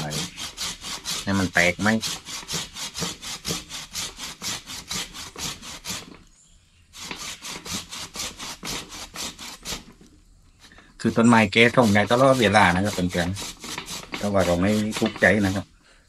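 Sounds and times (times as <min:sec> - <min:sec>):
hand saw cutting wood: 0:00.0 - 0:06.3, 0:06.9 - 0:10.1, 0:11.0 - 0:15.7.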